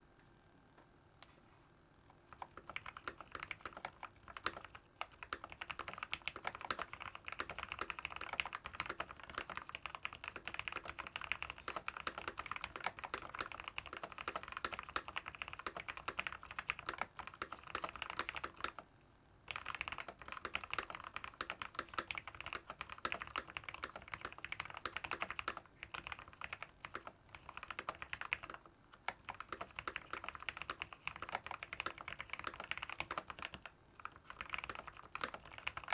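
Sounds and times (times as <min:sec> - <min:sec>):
mechanical keyboard typing: 0:02.3 - 0:18.8, 0:19.5 - 0:35.9.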